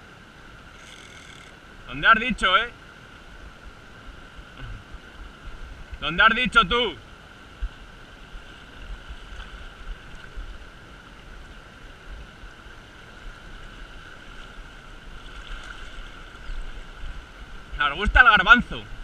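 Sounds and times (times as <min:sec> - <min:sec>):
river flowing over cobbles: 0:00.0 - 0:19.0.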